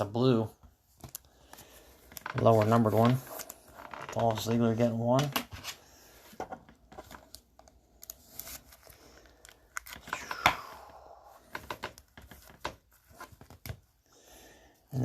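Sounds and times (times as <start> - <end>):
cards and packaging rustling: 0.9 - 14.0.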